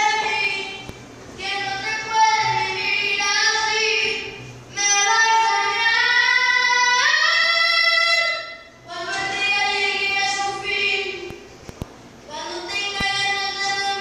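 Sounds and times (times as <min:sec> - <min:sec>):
child singing unaccompanied: 0:01.4 - 0:11.3, 0:12.3 - 0:14.0.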